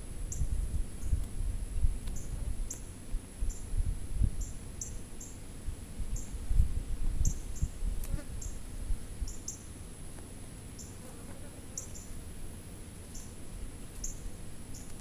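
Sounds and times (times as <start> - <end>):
insects chirping: 0.0 - 6.5, 7.1 - 15.0.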